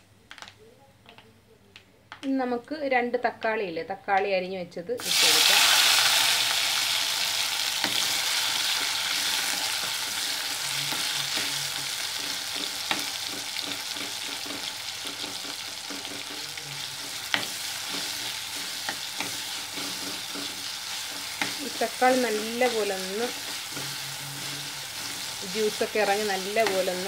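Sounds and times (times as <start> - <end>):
tomatoes sizzling in oil: 5.0 - 27.0.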